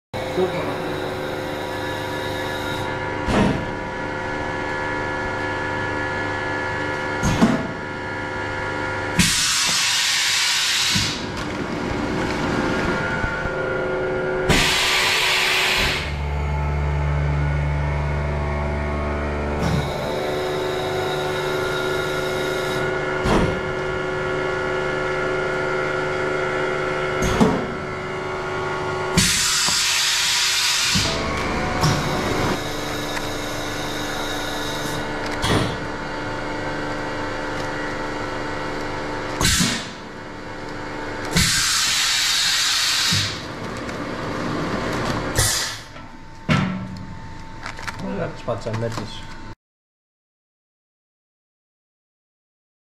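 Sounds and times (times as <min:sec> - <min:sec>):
machine hum: 0:00.2 - 0:49.6.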